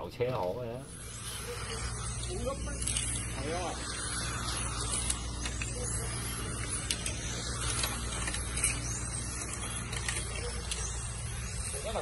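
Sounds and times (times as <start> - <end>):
steady low hum: 0.0 - 12.0
electric motor whines: 0.8 - 12.0.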